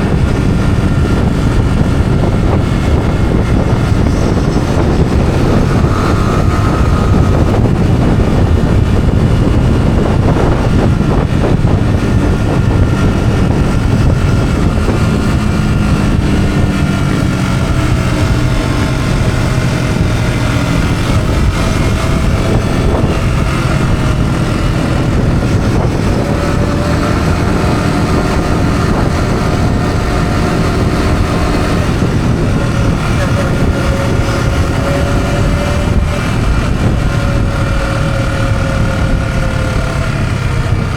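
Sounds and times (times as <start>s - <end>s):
motorcycle engine running: 0.0s - 40.9s
wind rushing on microphone: 0.0s - 40.9s.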